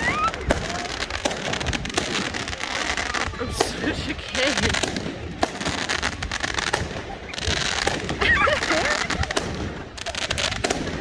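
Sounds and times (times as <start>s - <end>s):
fireworks popping and banging: 0.0s - 11.0s
voices calling out: 0.0s - 11.0s.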